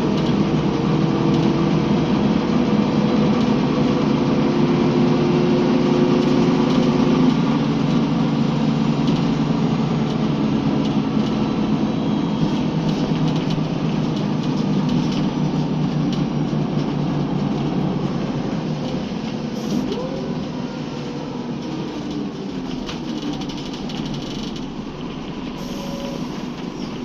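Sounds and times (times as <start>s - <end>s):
bus engine: 0.0s - 27.0s
tyre and road noise: 0.0s - 27.0s.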